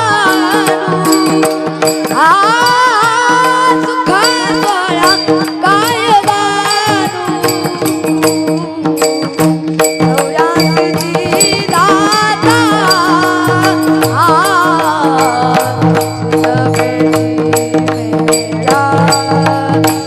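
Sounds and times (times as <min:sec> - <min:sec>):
boy singing: 0:00.0 - 0:20.0
percussion rhythm: 0:00.0 - 0:20.0.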